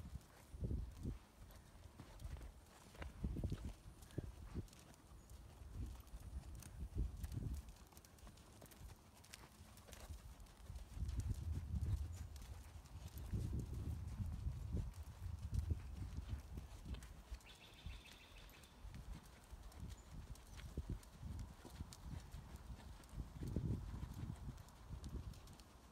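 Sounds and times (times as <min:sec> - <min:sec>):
hooves thudding on sand: 0:00.0 - 0:25.9.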